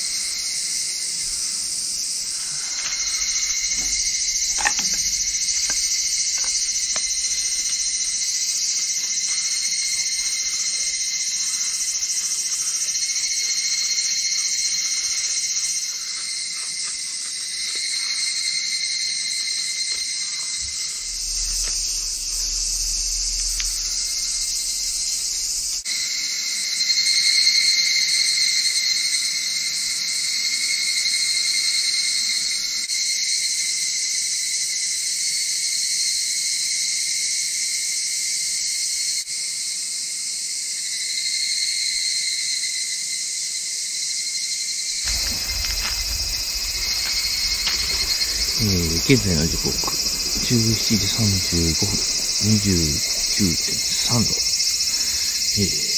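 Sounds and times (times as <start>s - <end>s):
cicadas singing: 0.0s - 55.9s.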